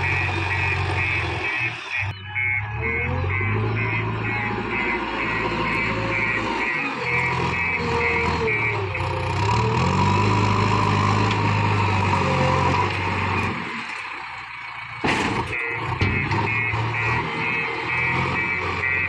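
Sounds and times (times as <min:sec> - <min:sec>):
diesel engine revving under load: 0:00.0 - 0:19.0.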